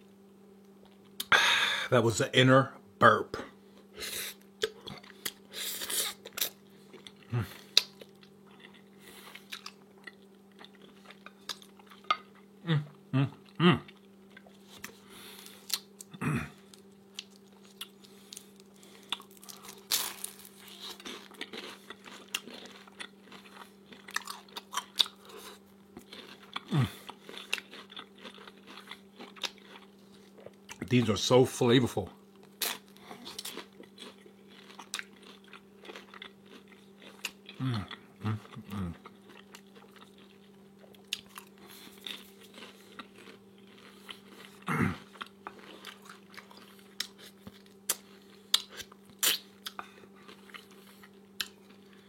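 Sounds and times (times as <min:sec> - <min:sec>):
person chewing crunchy food: 0:03.8 - 0:31.0, 0:32.4 - 0:52.0.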